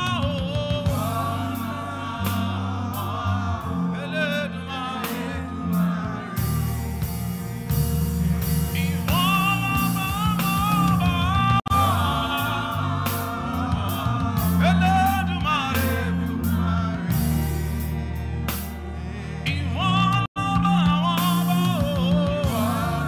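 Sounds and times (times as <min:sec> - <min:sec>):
bass and steady beat: 0:00.0 - 0:23.0
gospel singing voices: 0:00.0 - 0:23.0.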